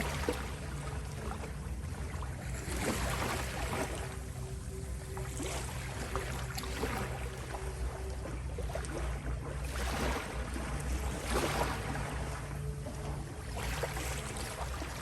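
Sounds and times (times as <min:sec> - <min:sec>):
low drone of sustained tones: 0:00.0 - 0:15.0.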